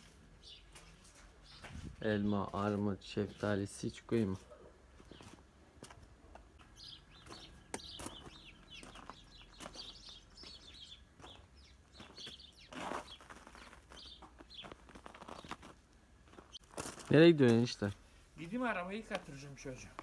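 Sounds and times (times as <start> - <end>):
birds chirping: 0.0 - 16.7.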